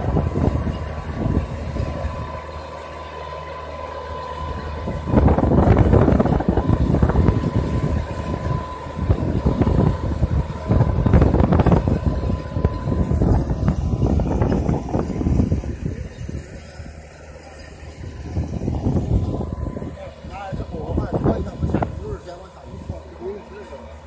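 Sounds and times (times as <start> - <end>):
wind rumble on microphone: 0.0 - 3.0, 4.3 - 23.4
tractor diesel engine under load: 0.0 - 24.0.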